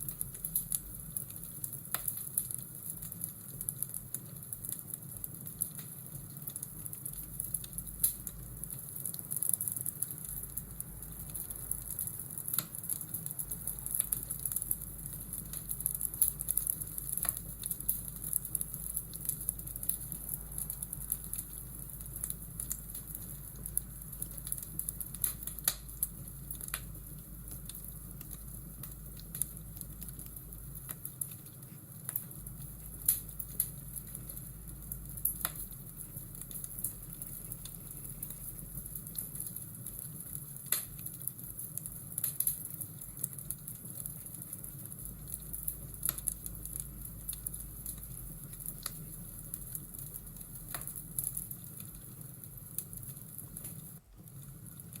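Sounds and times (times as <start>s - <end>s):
burning logs crackling: 0.0s - 55.0s
steady rain hiss: 0.0s - 55.0s.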